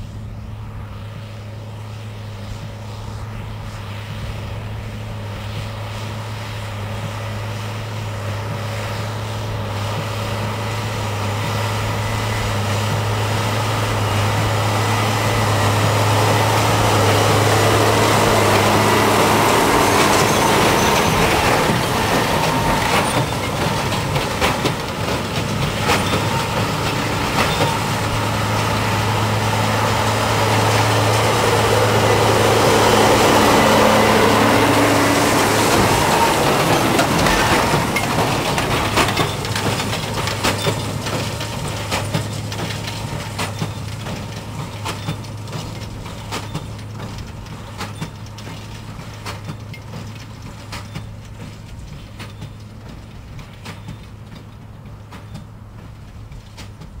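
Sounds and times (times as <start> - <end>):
tractor diesel engine running: 0.0 - 57.0
baler mechanical clatter: 9.8 - 57.0.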